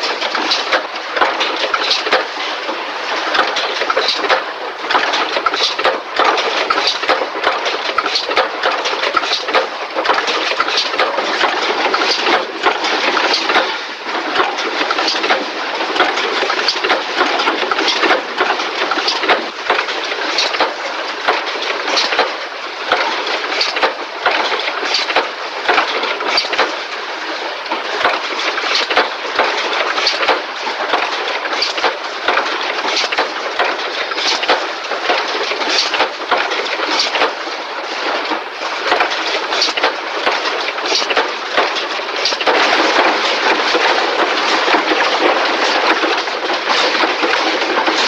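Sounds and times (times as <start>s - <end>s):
factory machinery clattering: 0.0s - 48.0s
sharp clicks and knocks: 0.0s - 48.0s.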